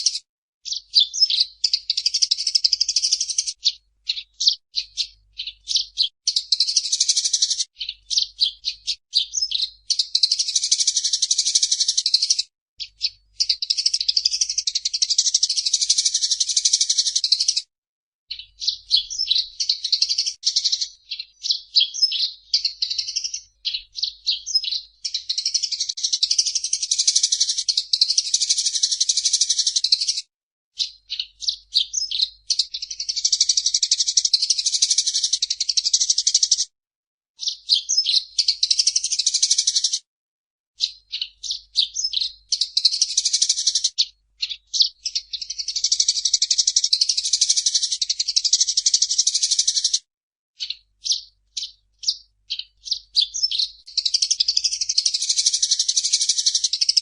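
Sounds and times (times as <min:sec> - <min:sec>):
sparrow chirping and chattering: 0:00.0 - 0:17.7, 0:18.3 - 0:36.7, 0:37.4 - 0:40.1, 0:40.8 - 0:57.0.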